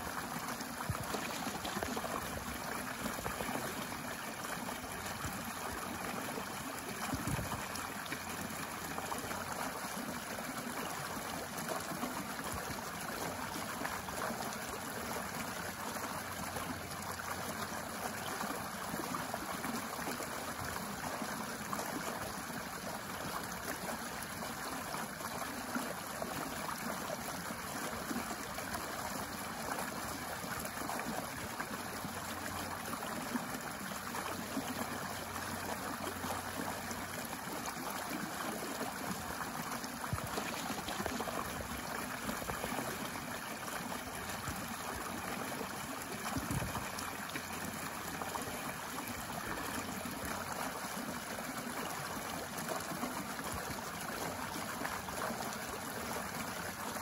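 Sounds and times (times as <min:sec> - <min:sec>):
stream splashing over rocks: 0:00.0 - 0:57.0.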